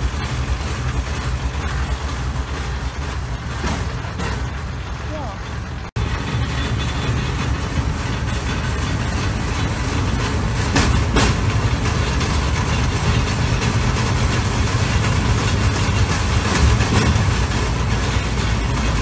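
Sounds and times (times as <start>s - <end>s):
steel wheels rumbling on track: 0.0s - 19.0s.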